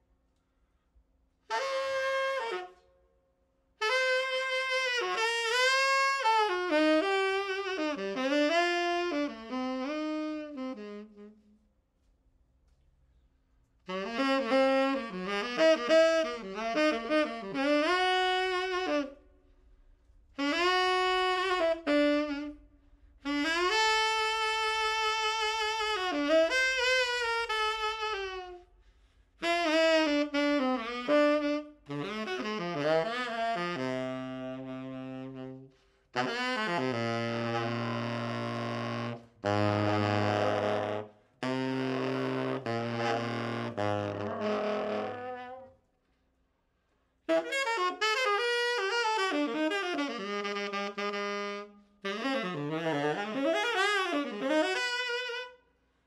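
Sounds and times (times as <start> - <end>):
tenor saxophone playing jazz: 1.4 - 2.9, 3.7 - 12.1, 13.8 - 46.0, 47.1 - 56.0.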